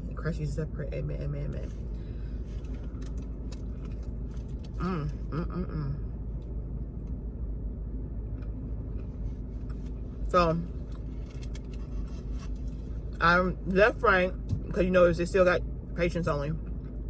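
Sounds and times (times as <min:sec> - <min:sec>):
car engine idling: 0:00.0 - 0:17.0
faint steady hum: 0:00.0 - 0:17.0.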